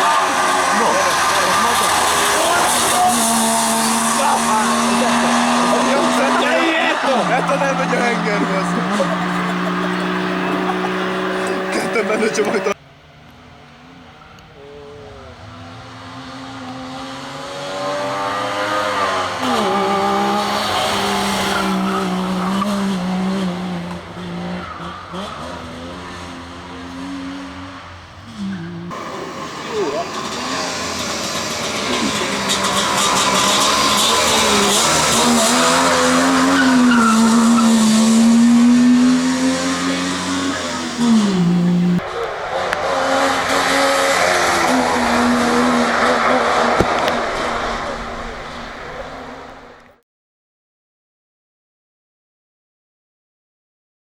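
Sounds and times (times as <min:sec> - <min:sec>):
rally car engine revving: 0:00.0 - 0:12.8, 0:14.6 - 0:50.0.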